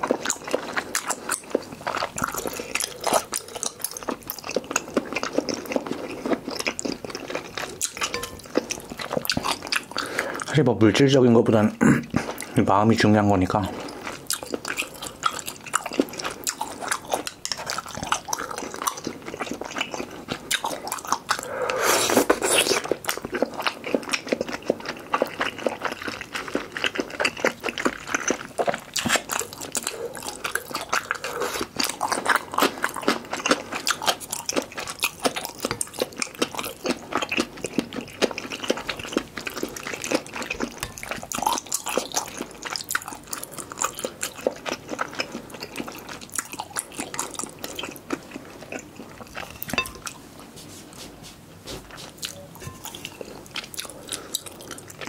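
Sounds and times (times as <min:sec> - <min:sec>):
person chewing noodles: 0:00.0 - 0:10.6, 0:12.0 - 0:12.6, 0:13.6 - 0:55.0.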